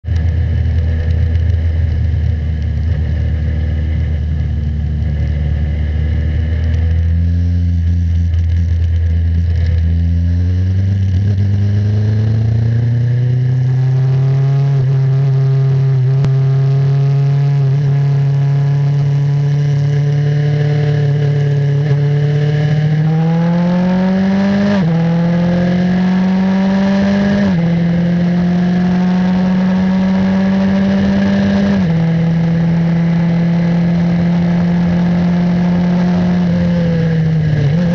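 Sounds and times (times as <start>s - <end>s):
race car engine revving: 0.1s - 37.9s.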